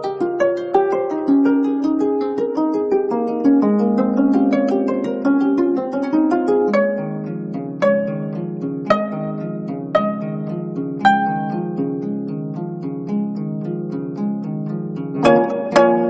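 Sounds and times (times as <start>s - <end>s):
plucked zither notes: 0.0s - 16.0s.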